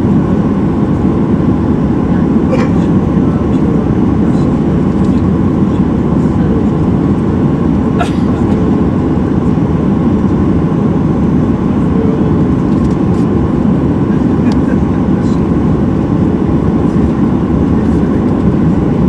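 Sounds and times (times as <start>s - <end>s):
jet engines idling in cabin: 0.0s - 19.0s.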